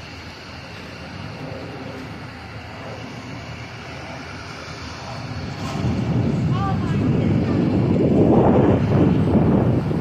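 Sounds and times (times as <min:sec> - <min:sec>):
train approaching with low rumble: 0:00.0 - 0:10.0.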